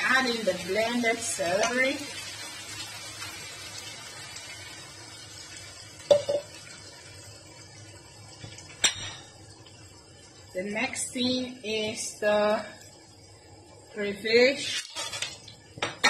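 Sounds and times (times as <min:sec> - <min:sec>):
wok sizzling: 0:00.0 - 0:16.0.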